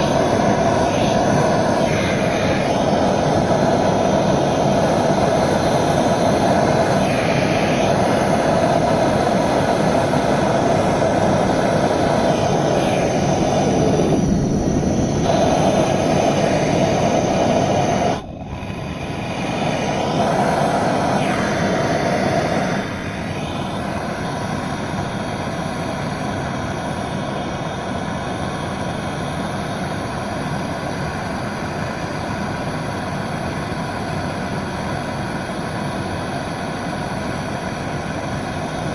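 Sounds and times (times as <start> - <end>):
gas torch flame burning: 0.0 - 38.9.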